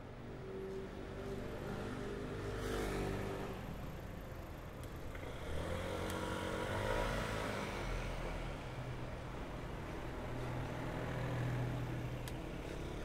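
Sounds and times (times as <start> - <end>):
road noise: 0.0 - 13.0
vehicle engines passing: 0.2 - 13.0.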